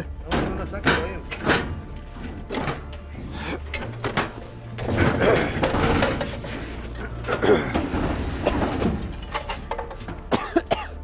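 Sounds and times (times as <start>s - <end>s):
refrigerator rumbling and rattling: 0.0s - 11.0s.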